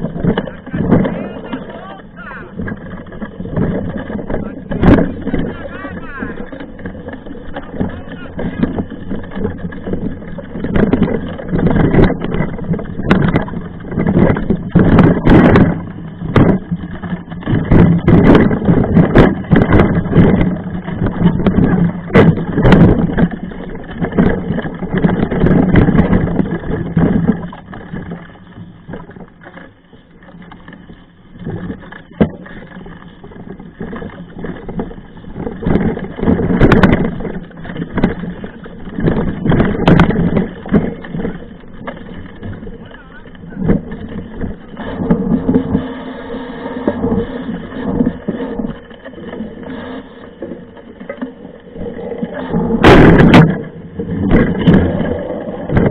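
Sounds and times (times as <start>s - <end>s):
mountain bike rattling on rough trail: 0.0s - 55.9s.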